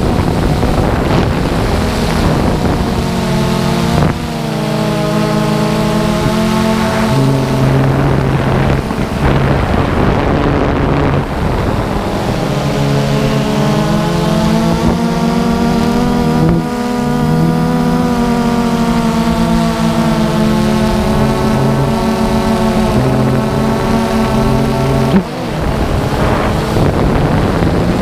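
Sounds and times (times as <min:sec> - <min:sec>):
drone motors whining: 0:00.0 - 0:28.0
wind on microphone: 0:00.0 - 0:28.0.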